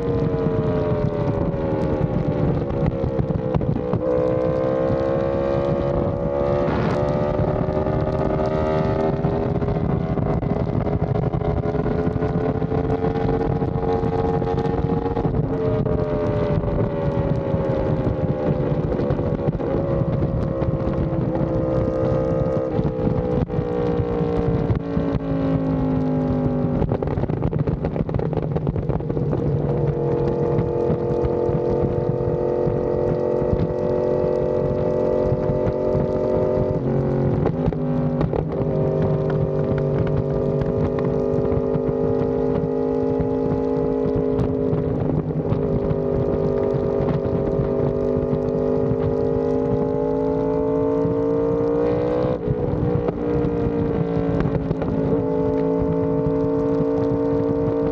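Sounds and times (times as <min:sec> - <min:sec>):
motorcycle engine at speed: 0:00.0 - 0:57.9.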